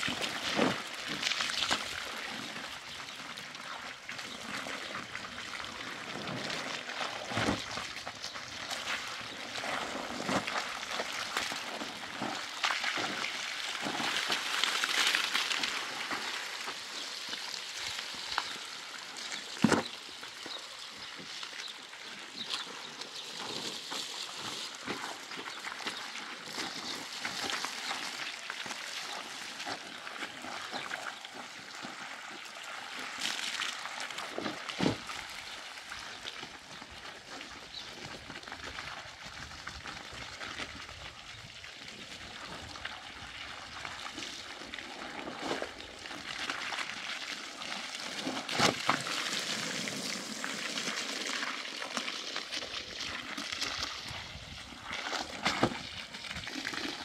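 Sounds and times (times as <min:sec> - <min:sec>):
water trickling and pouring: 0:00.0 - 0:57.0.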